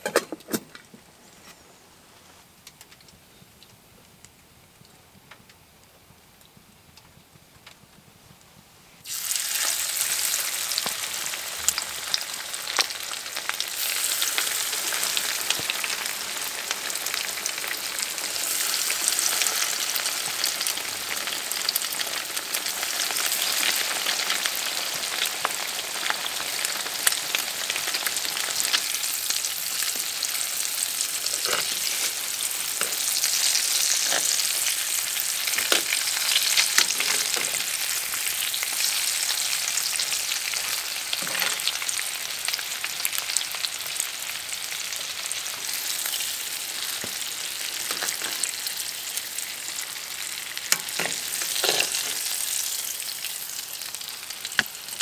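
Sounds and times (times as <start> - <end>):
fish sizzling in hot oil: 9.0 - 55.0.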